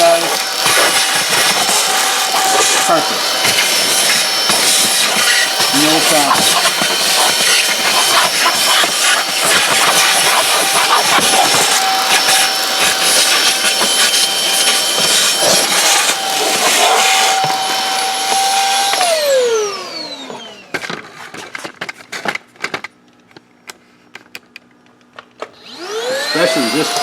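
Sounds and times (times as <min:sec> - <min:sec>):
vacuum motor whining: 0:00.0 - 0:21.7, 0:25.4 - 0:27.0.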